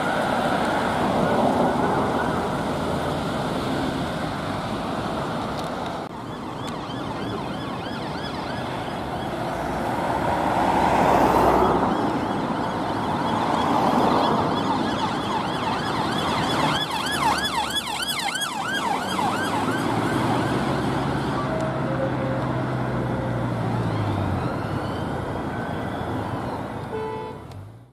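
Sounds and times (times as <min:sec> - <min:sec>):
police siren yelp and wail: 0:00.0 - 0:02.7, 0:06.1 - 0:26.8
traffic noise: 0:00.0 - 0:27.9.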